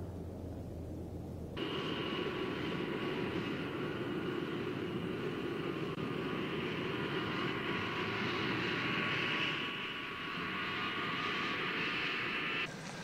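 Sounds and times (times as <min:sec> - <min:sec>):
low rumble: 0:00.0 - 0:12.7
storm wind roaring: 0:00.0 - 0:13.0.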